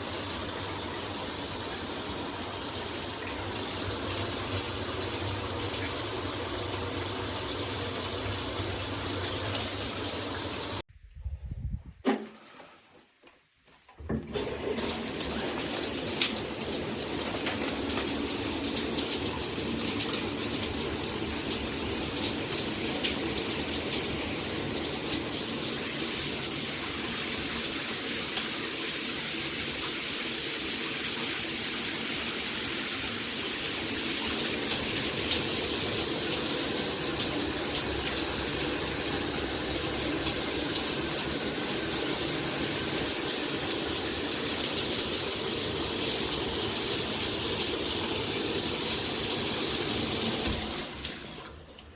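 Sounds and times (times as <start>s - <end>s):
shower spraying water: 0.0s - 10.9s, 14.3s - 51.9s.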